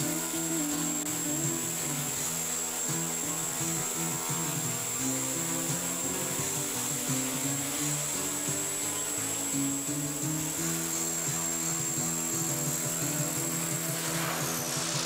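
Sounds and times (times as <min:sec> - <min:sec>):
background music: 0:00.0 - 0:15.0
rc helicopter whine hovering: 0:00.0 - 0:15.0.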